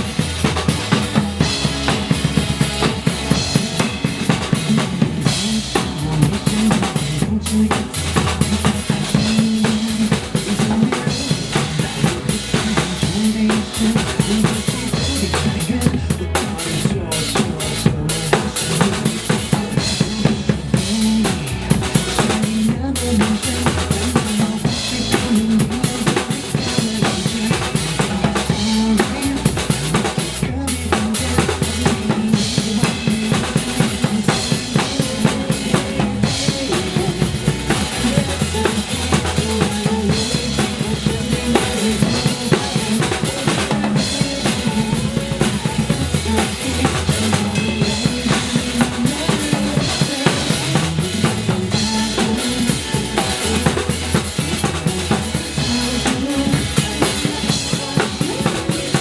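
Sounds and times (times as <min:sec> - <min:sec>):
drum kit playing: 0:00.0 - 0:59.0
recorded pop song: 0:00.0 - 0:59.0.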